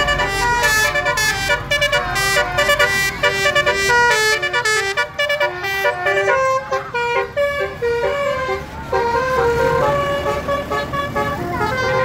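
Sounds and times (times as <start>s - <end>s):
low engine rumble: 0.0s - 12.0s
musical air horn melody: 0.0s - 12.0s.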